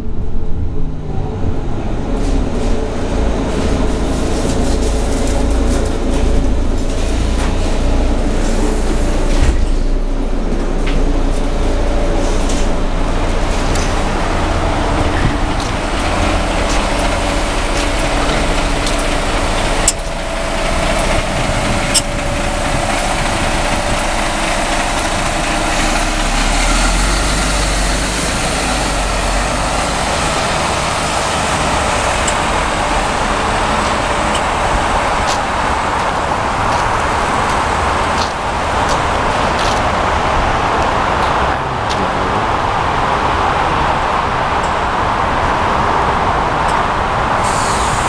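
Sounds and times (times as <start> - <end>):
bus engine rumble: 0.0 - 48.0.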